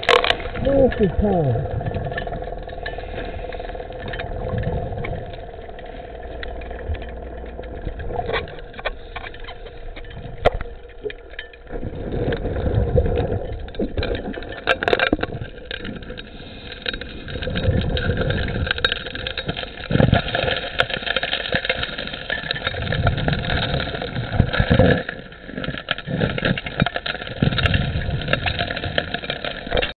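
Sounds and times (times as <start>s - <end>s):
engine and pump running underwater: 0.0s - 29.9s.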